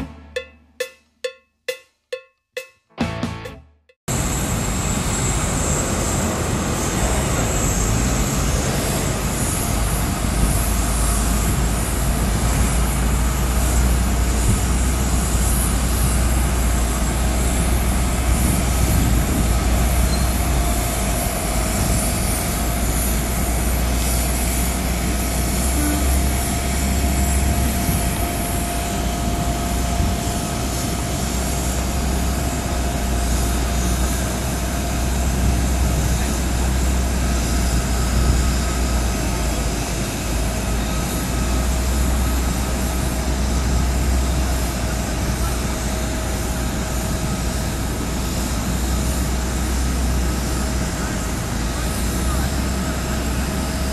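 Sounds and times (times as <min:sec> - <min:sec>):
auxiliary power unit rumble: 0:04.1 - 0:53.9
high-pitched whine: 0:04.1 - 0:53.9.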